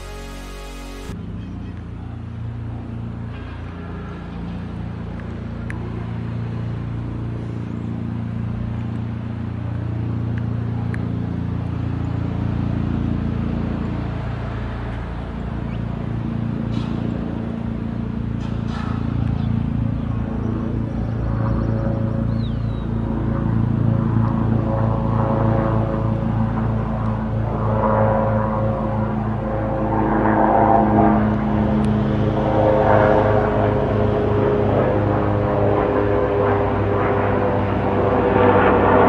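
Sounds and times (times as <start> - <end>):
helicopter rotor and turbine drone: 0.0 - 39.0.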